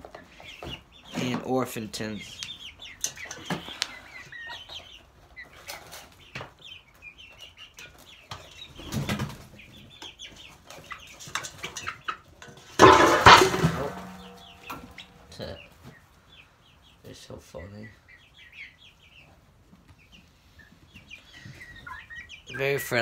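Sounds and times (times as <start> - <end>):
chickens clucking and peeping: 0.0 - 23.0.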